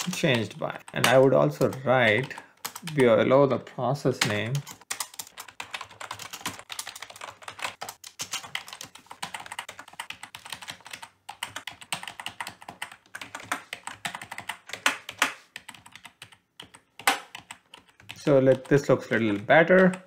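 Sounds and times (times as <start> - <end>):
computer keyboard typing: 0.0 - 3.2, 4.2 - 20.0.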